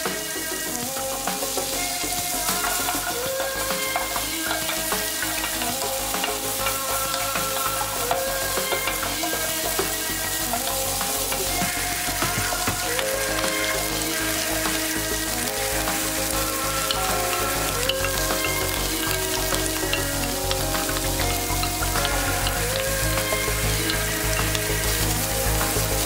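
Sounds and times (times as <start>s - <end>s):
light background music: 0.0s - 26.0s
sausage sizzling in oil: 0.0s - 26.0s.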